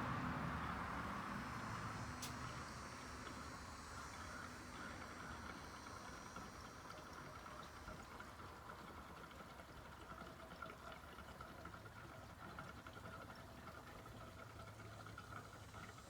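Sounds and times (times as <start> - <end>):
gasoline trickling: 0.0 - 16.0.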